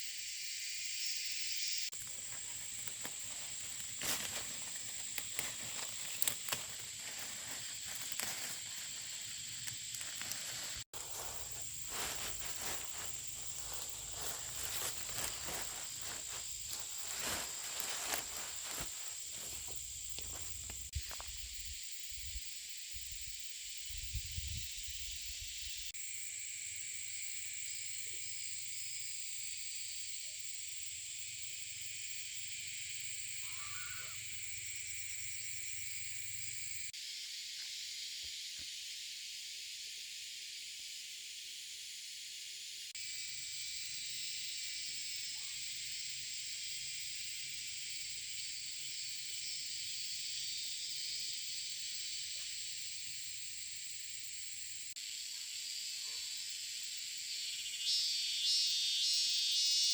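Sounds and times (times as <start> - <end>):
high-pitched insect hiss: 0.0 - 59.9.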